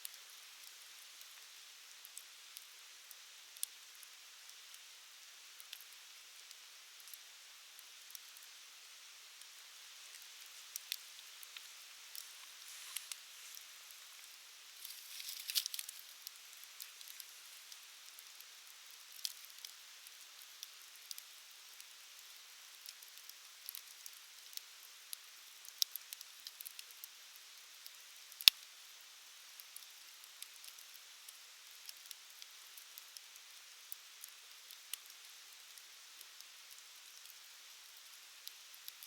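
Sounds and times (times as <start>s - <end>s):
wood fire crackling: 0.0s - 4.8s, 5.6s - 8.6s, 9.4s - 28.6s, 29.5s - 39.0s.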